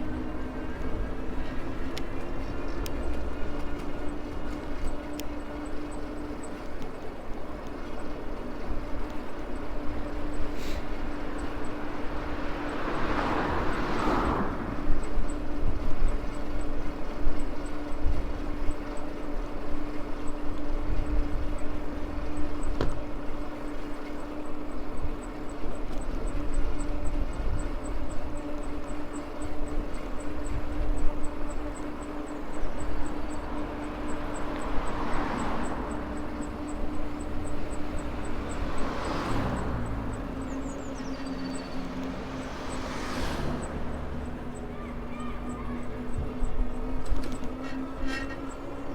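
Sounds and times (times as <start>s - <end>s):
passing vehicle: 0.0s - 48.9s
wind: 0.0s - 48.9s.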